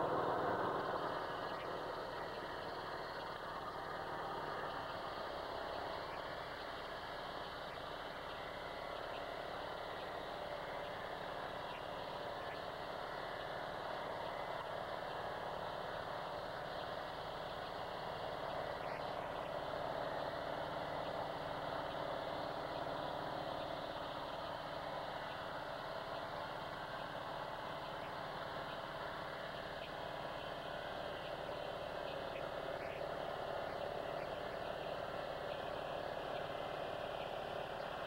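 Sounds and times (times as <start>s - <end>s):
sawmill engine running: 0.0s - 38.0s.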